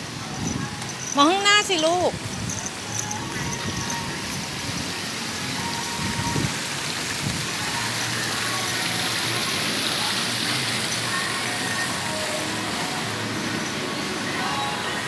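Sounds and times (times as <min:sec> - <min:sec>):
falling water hissing: 0:01.7 - 0:15.0.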